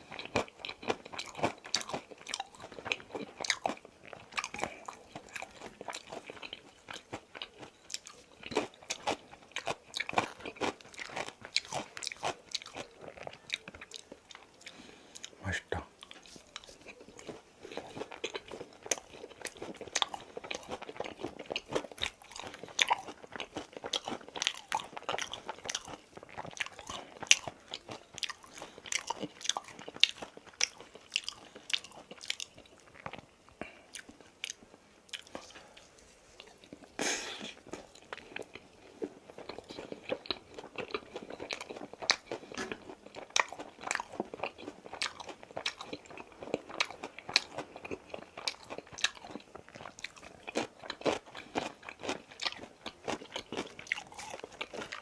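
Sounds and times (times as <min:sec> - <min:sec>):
crunchy chewing of fried chicken: 0:00.0 - 0:55.0.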